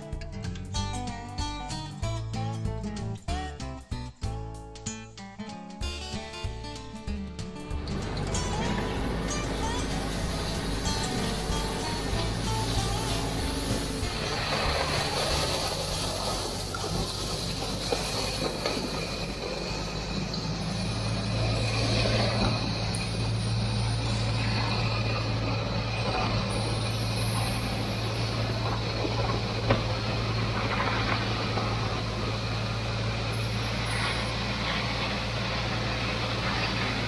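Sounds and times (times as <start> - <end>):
tractor diesel engine running: 7.3 - 37.0.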